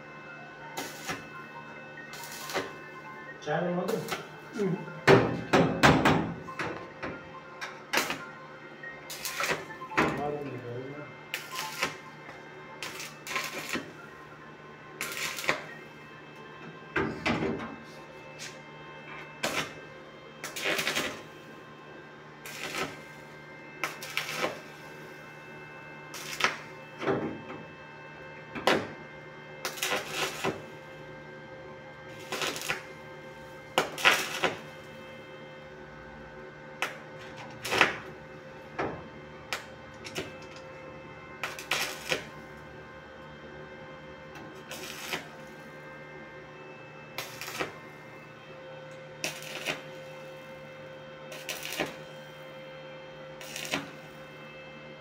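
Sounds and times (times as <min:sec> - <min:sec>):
arc welder crackling: 0:00.7 - 0:06.9, 0:07.6 - 0:08.4, 0:09.0 - 0:14.3, 0:14.9 - 0:16.5, 0:17.1 - 0:21.8, 0:22.4 - 0:54.8.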